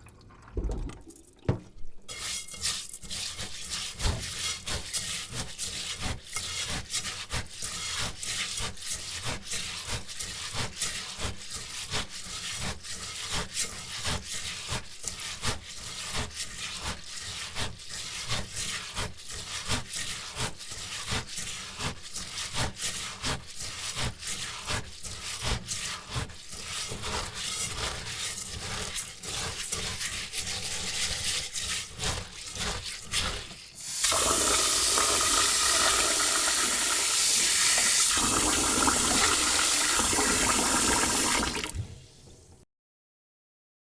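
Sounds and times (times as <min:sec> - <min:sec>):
rice scrubbed in a bowl: 0:02.0 - 0:42.4.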